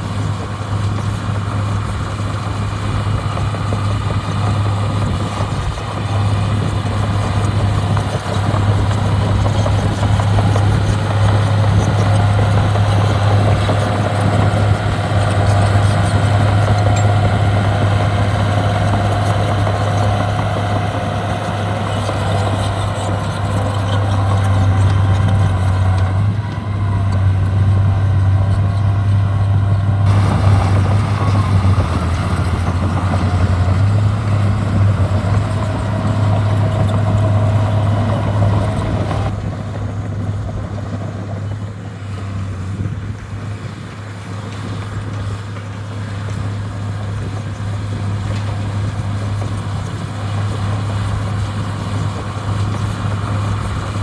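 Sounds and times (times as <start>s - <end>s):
diesel engine drone: 0.0s - 54.0s
higher machine noise: 0.0s - 54.0s.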